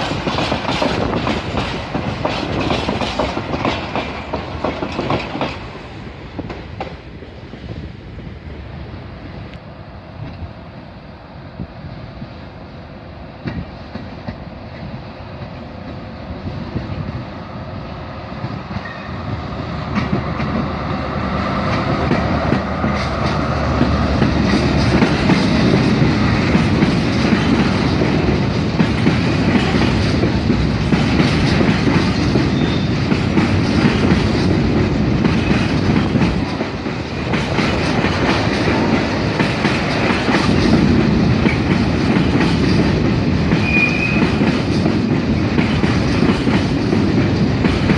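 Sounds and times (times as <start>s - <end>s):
train passing with heavy rumble: 0.0s - 47.9s.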